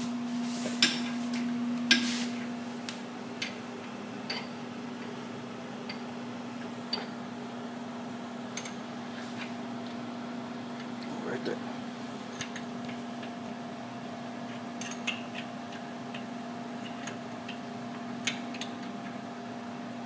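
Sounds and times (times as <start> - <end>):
mill hum: 0.0 - 20.0.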